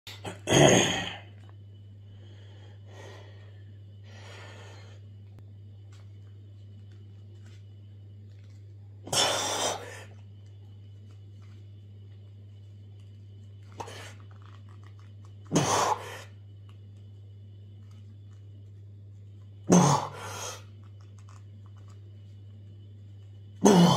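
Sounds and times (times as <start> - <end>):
steady low hum: 0.1 - 23.9.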